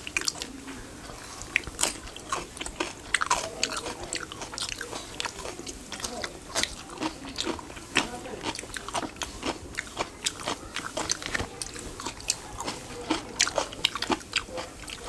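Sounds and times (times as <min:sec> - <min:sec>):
chewing and biting food: 0:00.0 - 0:15.0.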